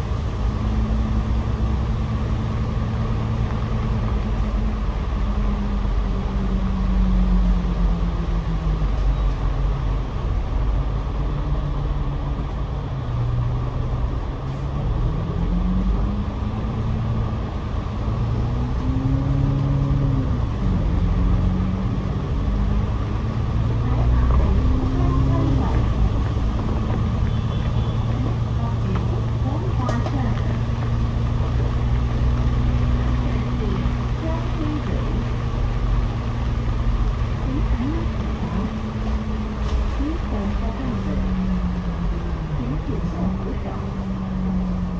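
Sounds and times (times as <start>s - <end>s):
bus engine: 0.0s - 44.9s
tyres rumbling on road: 0.0s - 44.9s.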